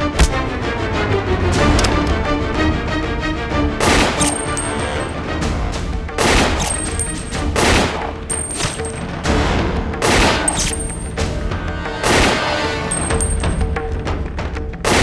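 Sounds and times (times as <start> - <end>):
dramatic music score: 0.0 - 15.0.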